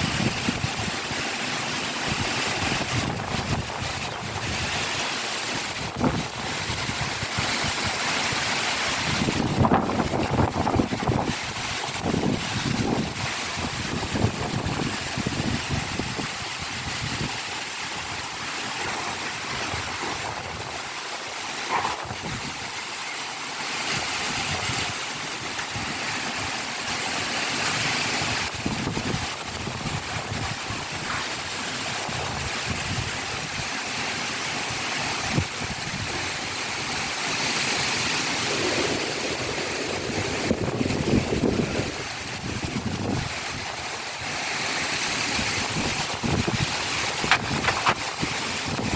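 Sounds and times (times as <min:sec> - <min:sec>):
wind buffeting microphone: 0:00.0 - 0:26.6, 0:27.3 - 0:33.9, 0:34.6 - 0:48.9
heavy rain hissing: 0:00.0 - 0:48.9.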